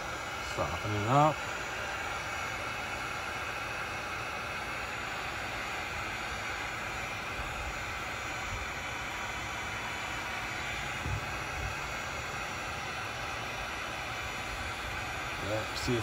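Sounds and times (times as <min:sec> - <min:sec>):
heat gun fan blowing: 0:00.0 - 0:16.0.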